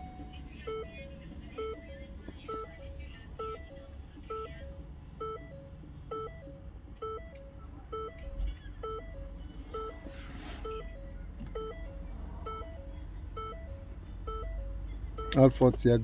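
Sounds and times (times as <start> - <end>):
electronic beep pattern: 0.0 - 15.6.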